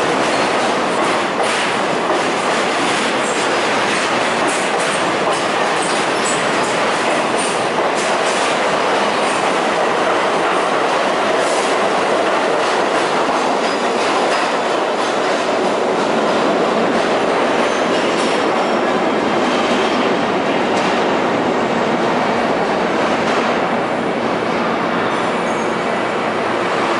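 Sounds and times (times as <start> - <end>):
train wheels rumbling on rail: 0.0 - 26.9.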